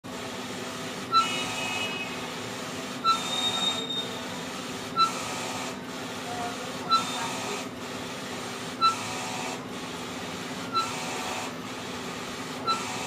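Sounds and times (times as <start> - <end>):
print head carriage sweeping: 0.1 - 13.0
printer mechanical hum: 0.1 - 13.0.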